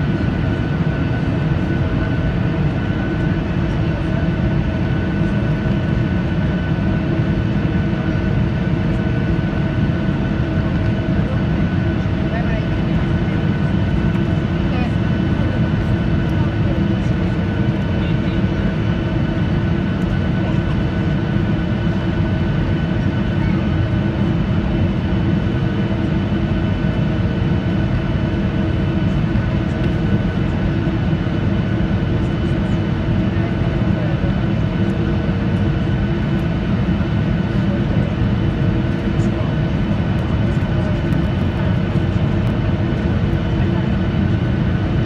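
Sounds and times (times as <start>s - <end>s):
airliner cabin roar: 0.0s - 45.0s.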